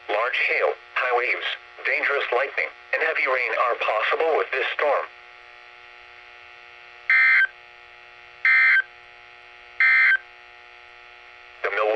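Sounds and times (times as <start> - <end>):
steady radio hum: 0.0 - 5.8, 6.8 - 11.9.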